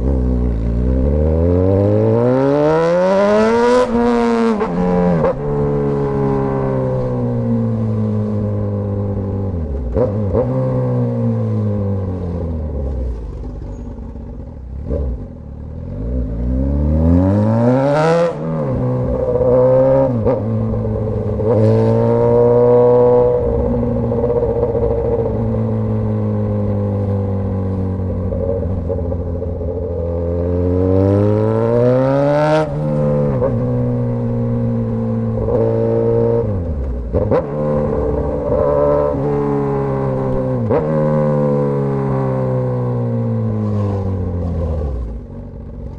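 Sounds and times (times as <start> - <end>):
motorcycle exhaust revving: 0.0 - 45.9.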